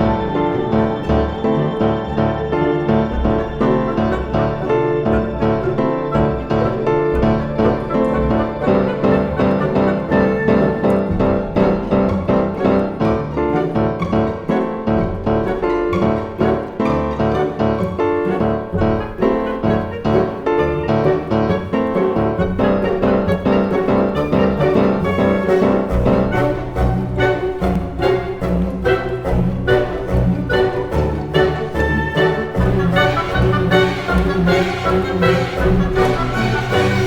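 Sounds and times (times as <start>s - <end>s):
instrumental piano music: 0.0s - 37.0s.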